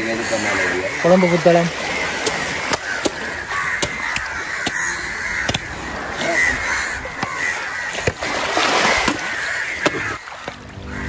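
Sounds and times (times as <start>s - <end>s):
crows cawing: 0.0s - 11.0s.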